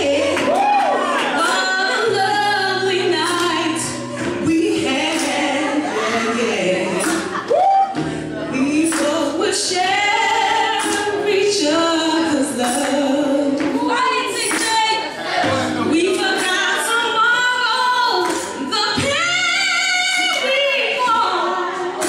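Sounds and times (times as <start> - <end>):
woman singing: 0.0 - 7.4, 8.5 - 22.0
electric keyboard chords: 0.0 - 22.0.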